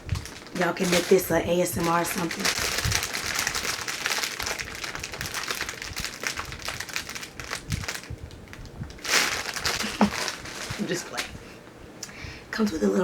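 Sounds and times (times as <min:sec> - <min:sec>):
wrapping paper crinkling: 0:00.0 - 0:11.4.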